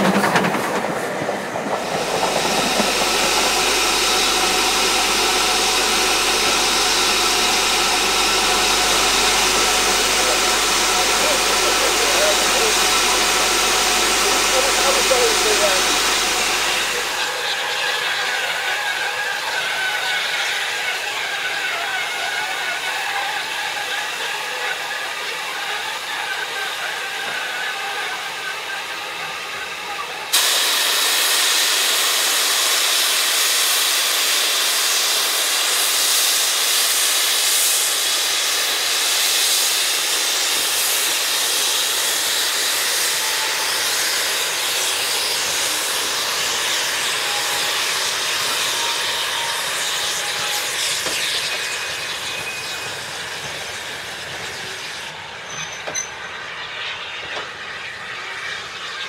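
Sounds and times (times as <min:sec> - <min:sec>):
locomotive steam hissing: 0:00.0 - 0:59.0.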